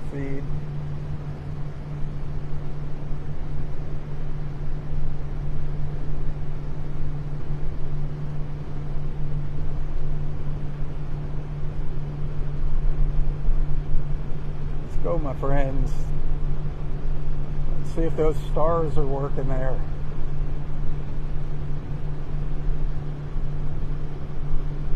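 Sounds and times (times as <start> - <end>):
boat motor droning: 0.0 - 24.9.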